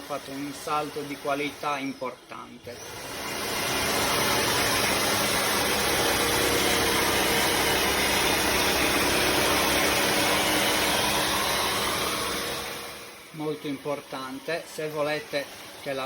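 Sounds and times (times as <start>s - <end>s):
vacuum cleaner whirring: 0.0s - 16.0s.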